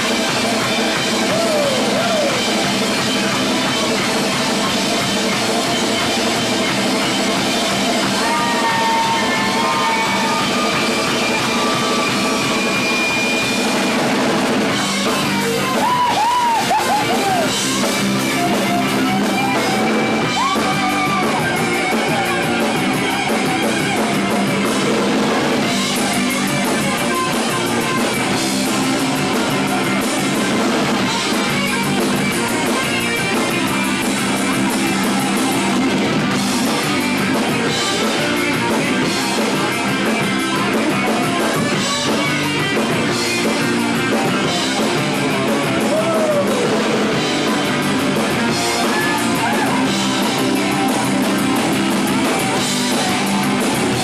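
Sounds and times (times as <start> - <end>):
electric guitar bending notes: 0.0 - 54.0
live rock band playing: 0.0 - 54.0.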